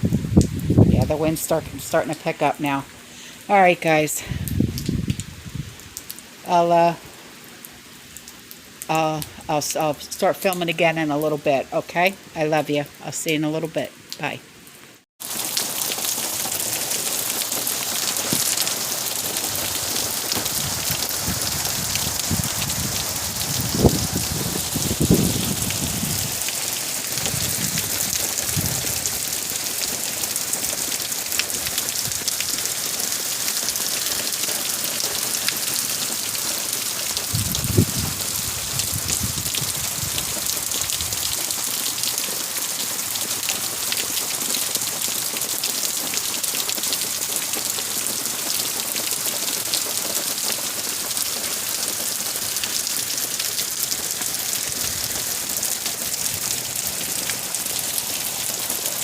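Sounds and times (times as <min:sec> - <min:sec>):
heavy rain falling: 0:00.0 - 0:09.8, 0:14.2 - 0:59.0.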